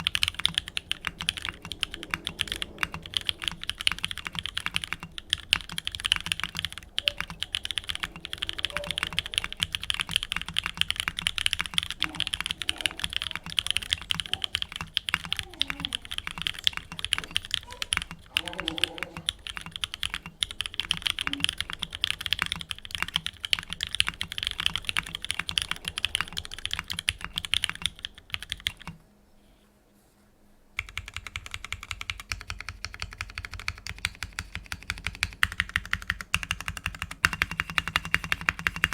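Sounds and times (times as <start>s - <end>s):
fast typing on mechanical keyboard: 0.0s - 29.0s, 30.8s - 38.9s.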